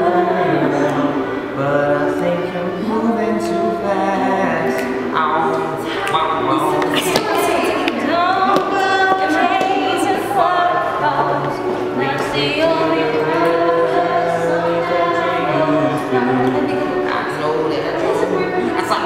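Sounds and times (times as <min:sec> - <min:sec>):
group singing a cappella: 0:00.0 - 0:19.0.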